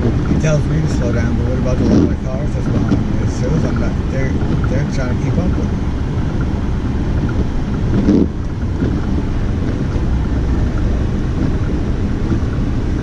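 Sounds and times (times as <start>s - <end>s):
vehicle rumble: 0.0s - 13.0s
wind buffeting microphone: 0.0s - 13.0s.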